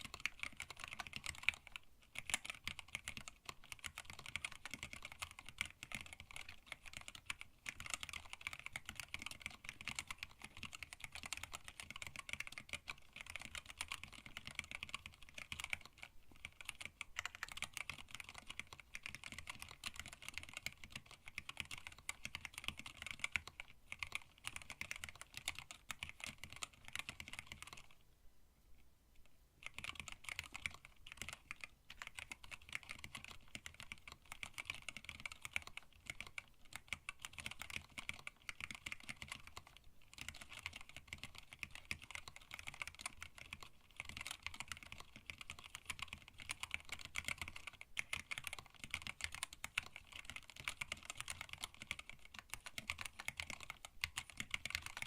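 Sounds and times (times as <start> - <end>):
fast typing on mechanical keyboard: 0.0 - 28.0, 29.6 - 55.0.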